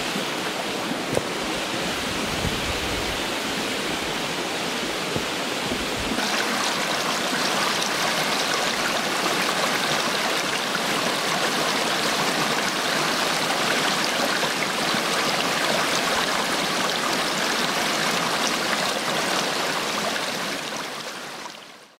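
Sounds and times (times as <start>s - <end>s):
stream babbling over rocks: 0.0s - 22.0s.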